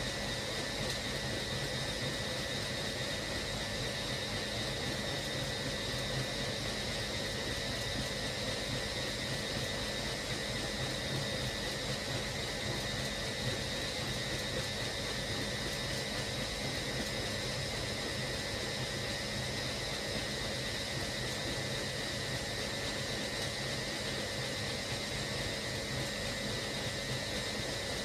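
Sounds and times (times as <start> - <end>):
washing machine whirring: 0.0 - 28.0.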